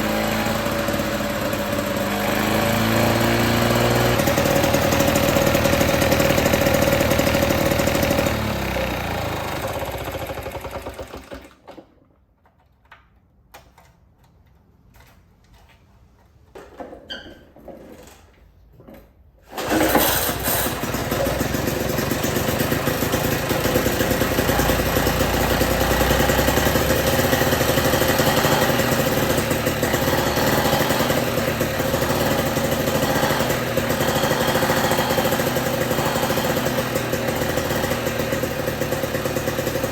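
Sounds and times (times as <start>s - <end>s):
mower engine running: 0.0s - 11.6s, 19.5s - 39.9s.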